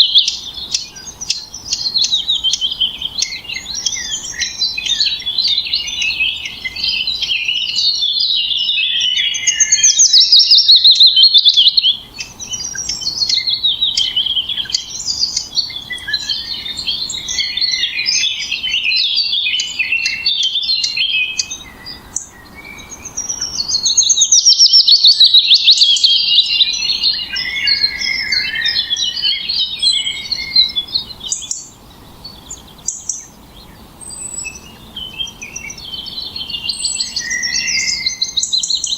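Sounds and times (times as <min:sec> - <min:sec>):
songbirds trilling and chirping: 0:00.0 - 0:38.9.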